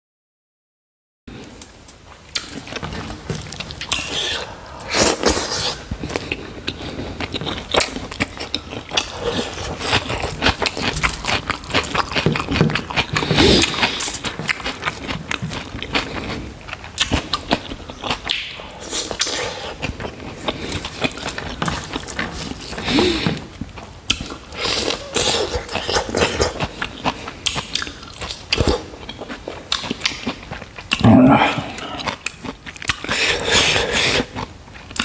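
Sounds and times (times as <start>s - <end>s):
chewing and lip smacking: 2.3s - 35.0s.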